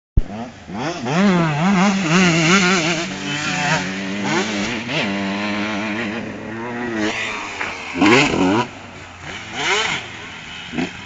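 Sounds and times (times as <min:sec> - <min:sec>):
two-stroke motocross bike revving: 0:00.2 - 0:11.0.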